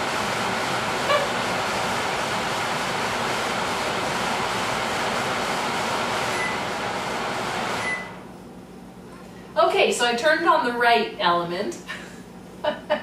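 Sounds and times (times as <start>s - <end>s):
microwave exhaust fan rushing: 0.0s - 13.0s.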